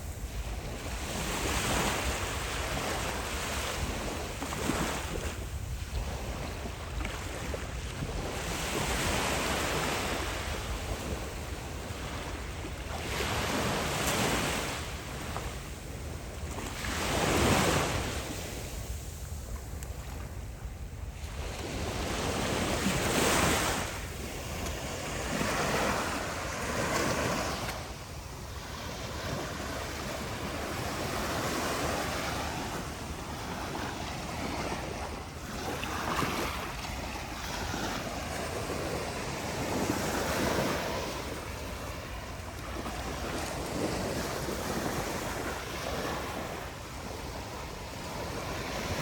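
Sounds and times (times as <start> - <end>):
sea waves breaking: 0.0 - 20.3, 21.2 - 49.0
wind rumbling on microphone: 0.0 - 49.0.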